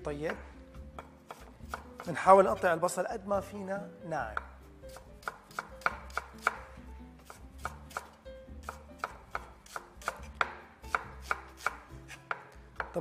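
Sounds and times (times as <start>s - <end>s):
knife chopping on wooden board: 0.2s - 2.5s, 4.3s - 13.0s.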